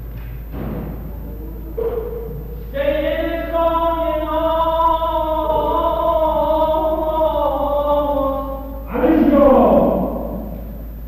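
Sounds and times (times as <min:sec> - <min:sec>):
man chanting a long note: 0:01.3 - 0:10.9.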